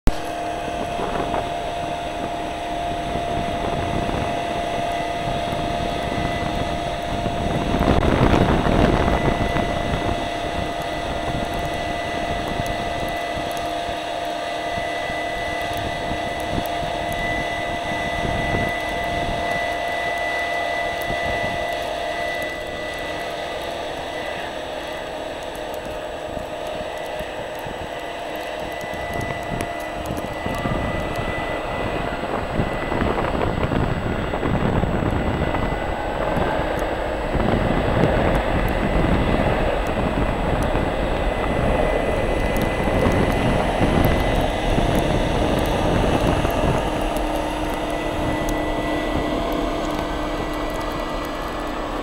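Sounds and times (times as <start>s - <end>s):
jet engines whining: 0.0s - 52.0s
snow-blower truck rumbling: 0.0s - 52.0s.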